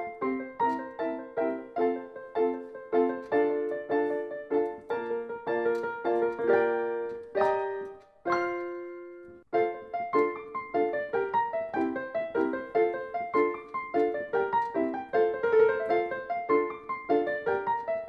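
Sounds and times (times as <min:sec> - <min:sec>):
light piano tune: 0:00.0 - 0:18.0.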